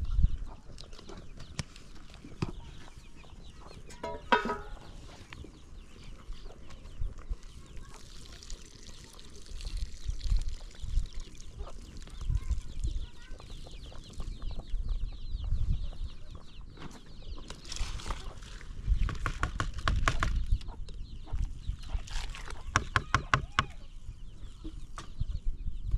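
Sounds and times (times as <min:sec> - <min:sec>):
chickens clucking: 0:00.0 - 0:09.7, 0:10.3 - 0:19.0, 0:20.0 - 0:22.8.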